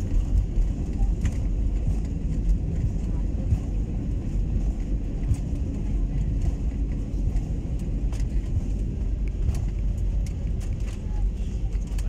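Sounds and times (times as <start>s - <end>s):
airliner engines and wheels rumbling: 0.0s - 12.0s.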